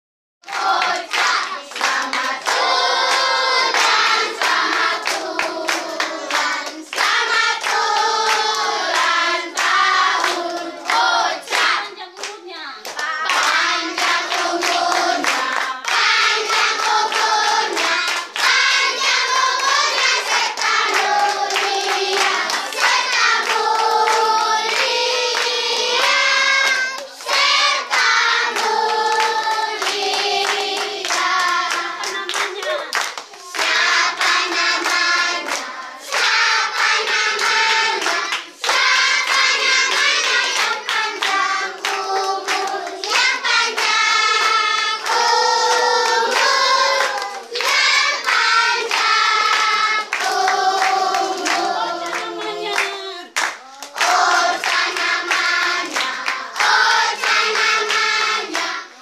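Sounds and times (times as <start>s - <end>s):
group singing: 0.4s - 12.3s, 12.9s - 59.0s
hands clapping: 0.4s - 59.0s.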